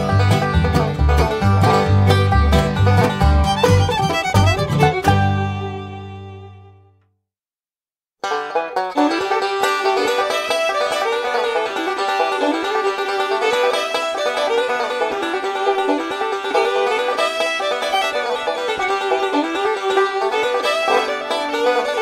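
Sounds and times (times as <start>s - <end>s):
upbeat banjo music: 0.0s - 6.9s, 8.2s - 22.0s.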